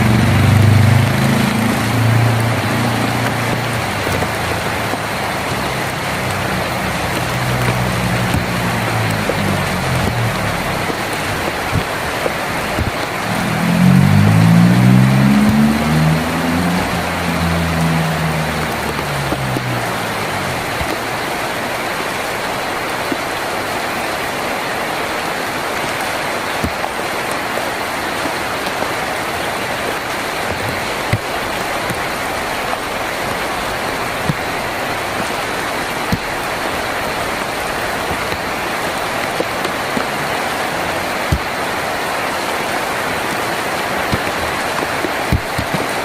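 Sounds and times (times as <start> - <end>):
heavy rain on a tin roof: 0.0 - 46.0.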